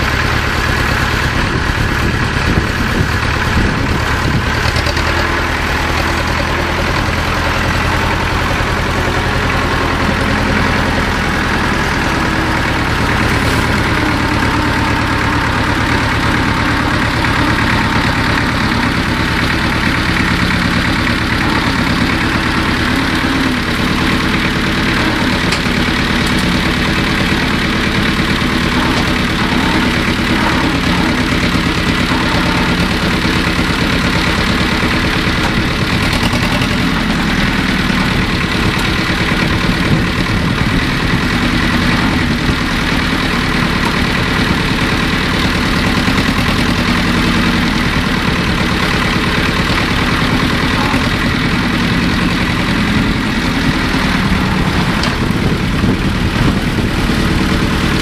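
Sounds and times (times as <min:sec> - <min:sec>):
front loader digging: 0:00.0 - 0:58.0
tractor diesel engine running: 0:00.0 - 0:58.0.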